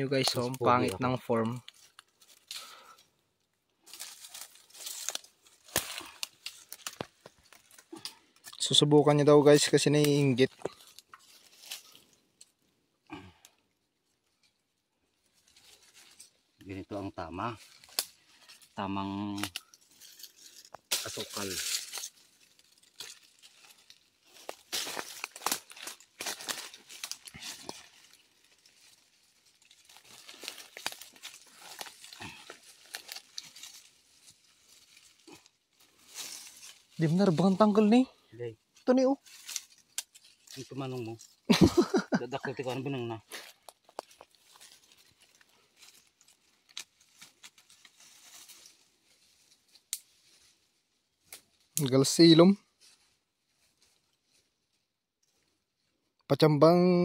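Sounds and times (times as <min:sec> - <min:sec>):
dry leaves and twigs crackling: 0:00.0 - 0:56.2.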